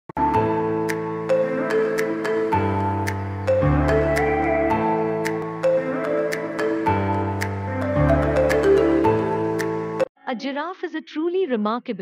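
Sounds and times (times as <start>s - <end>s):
calm background music: 0.2s - 10.1s.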